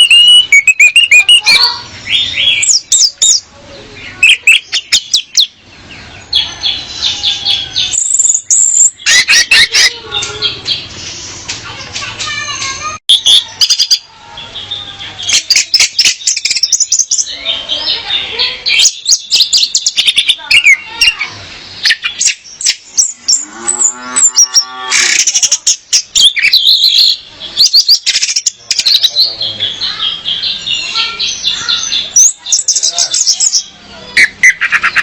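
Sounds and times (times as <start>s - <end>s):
thrush chirps and trills: 0.0s - 35.0s.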